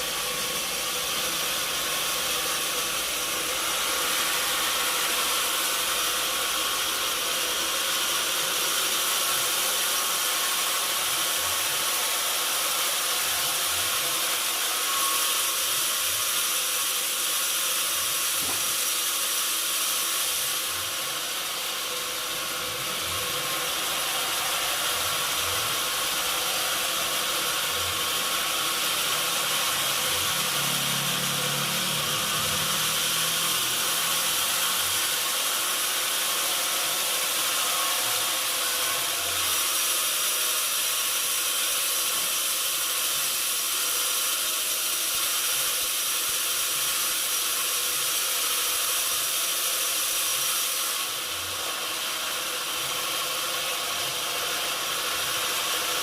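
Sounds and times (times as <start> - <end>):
sawmill machinery hissing: 0.0 - 56.0.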